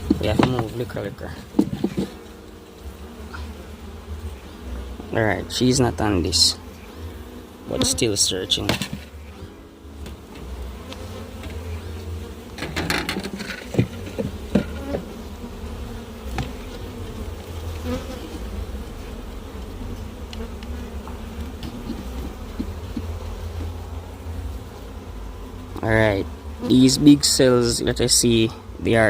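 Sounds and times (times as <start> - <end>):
honey bees buzzing: 0.0 - 29.0.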